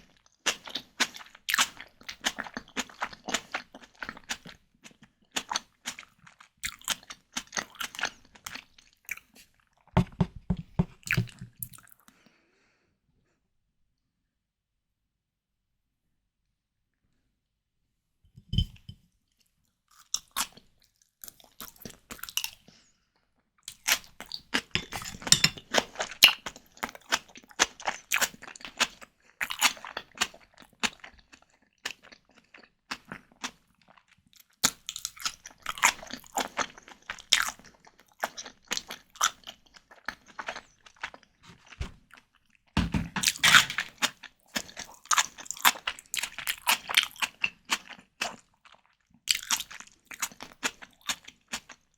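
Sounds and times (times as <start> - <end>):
crunching and wet chewing: 0.0 - 9.9, 19.4 - 22.9, 23.6 - 51.9.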